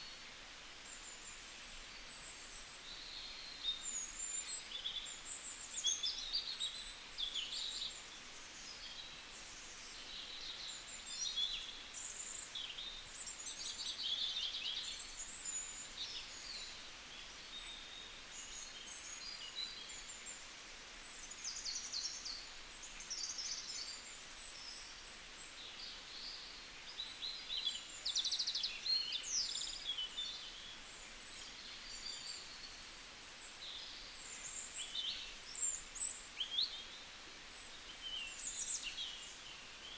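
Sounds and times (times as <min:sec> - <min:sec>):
faint steady hiss: 0:00.0 - 0:39.9
small birds chirping and trilling: 0:00.8 - 0:39.9.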